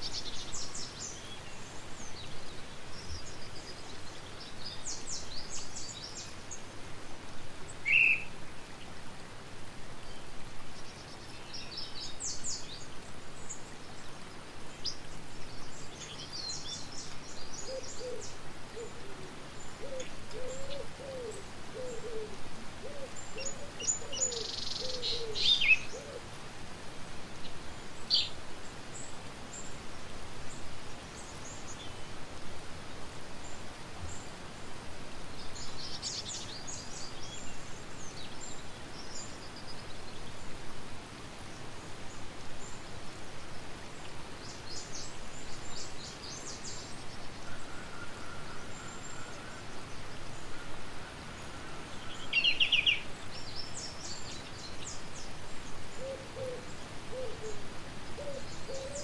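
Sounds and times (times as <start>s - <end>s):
birds chirping and twittering: 0.0s - 26.4s, 27.3s - 32.4s, 33.1s - 40.7s, 41.3s - 59.0s
outdoor background noise: 0.0s - 59.0s.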